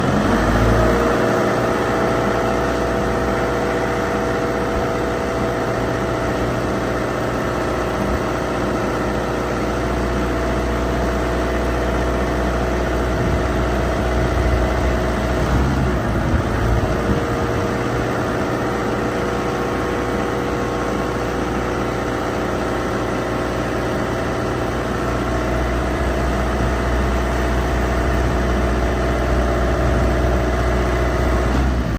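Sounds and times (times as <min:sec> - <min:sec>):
forklift engine rumbling: 0:00.0 - 0:31.9
steady whine: 0:00.0 - 0:31.9.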